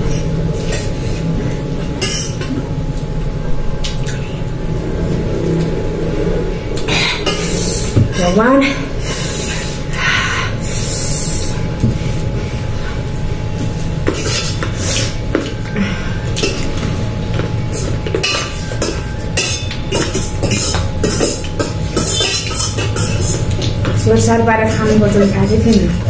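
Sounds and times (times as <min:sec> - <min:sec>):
low hum: 0:00.0 - 0:21.8.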